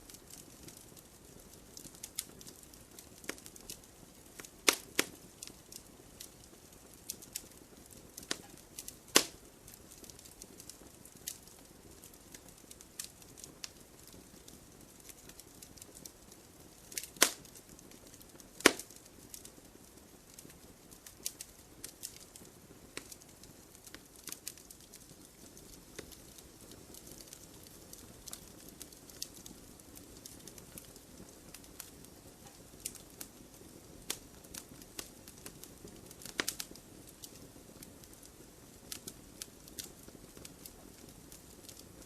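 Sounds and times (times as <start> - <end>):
burning wood popping: 0.0 - 42.0
campfire flames hissing: 0.0 - 42.0.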